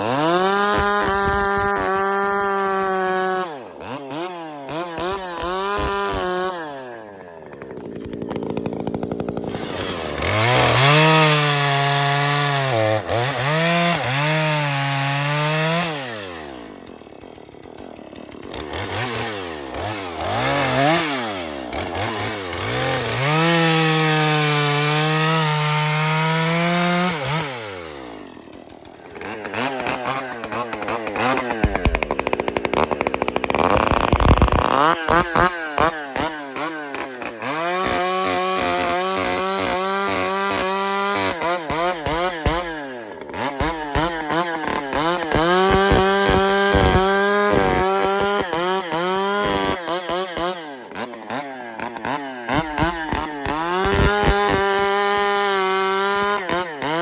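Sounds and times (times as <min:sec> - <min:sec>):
chainsaw revving: 0:00.0 - 0:57.0.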